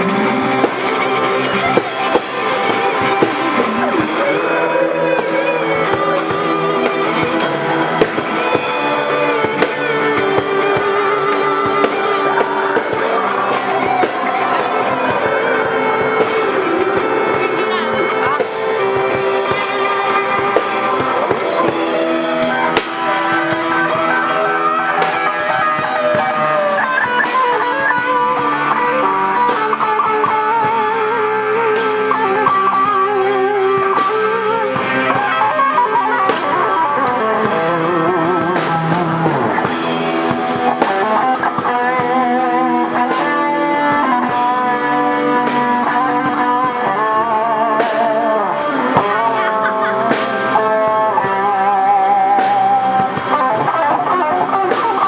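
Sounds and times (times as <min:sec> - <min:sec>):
drum kit beat: 0:00.0 - 0:55.0
lead guitar with vibrato: 0:00.0 - 0:55.0
strummed guitar chords: 0:00.0 - 0:55.0.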